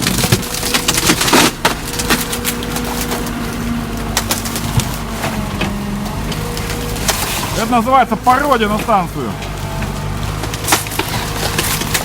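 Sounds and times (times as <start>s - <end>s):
diesel engine under load: 0.0s - 12.0s
plastic cracking and crunching: 0.0s - 12.0s.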